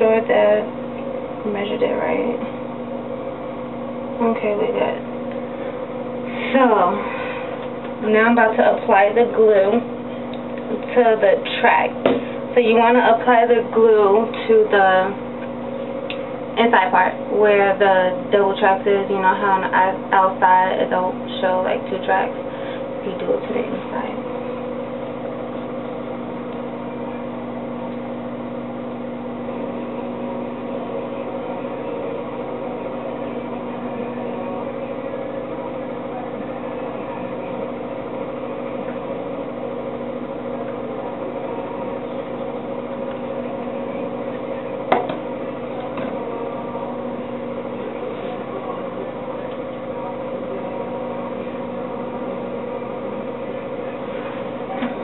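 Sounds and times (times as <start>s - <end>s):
machine hum: 0.0s - 55.0s.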